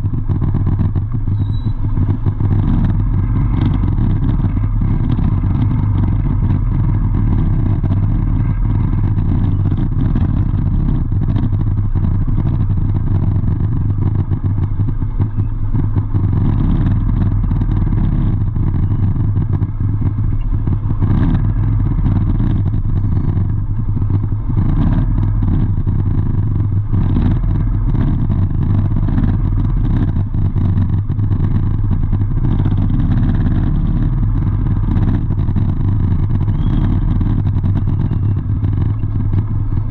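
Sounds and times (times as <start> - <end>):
traffic noise: 0.0 - 39.9
vehicle engine humming: 0.0 - 39.9.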